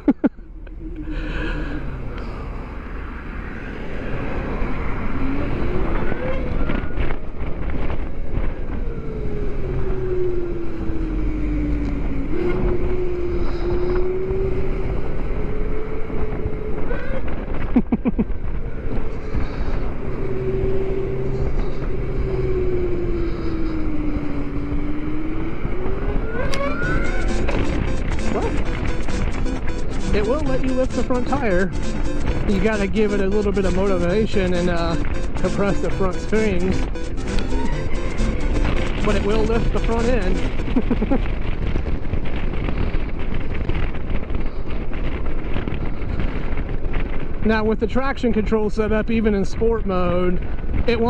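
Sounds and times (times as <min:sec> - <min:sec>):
wind rushing on microphone: 0:00.0 - 0:51.0.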